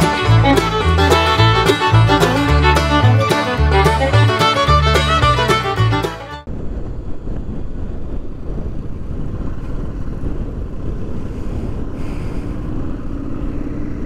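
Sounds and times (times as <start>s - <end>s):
motorcycle road noise: 0.0s - 14.0s
wind buffeting microphone: 0.0s - 14.0s.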